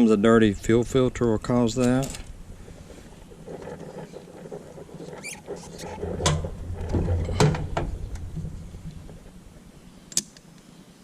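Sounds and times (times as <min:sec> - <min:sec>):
light scratching and rustling: 0:00.3 - 0:10.1.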